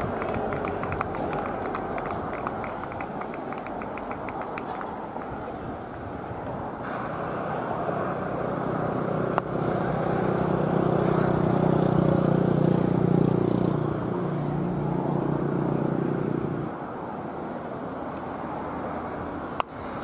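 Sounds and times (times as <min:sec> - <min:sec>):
engine humming: 0:00.0 - 0:16.7.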